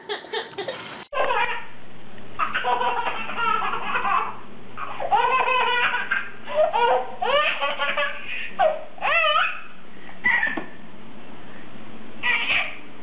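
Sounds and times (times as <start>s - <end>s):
baby laughing: 0.0s - 1.6s, 2.4s - 10.8s, 12.2s - 12.8s.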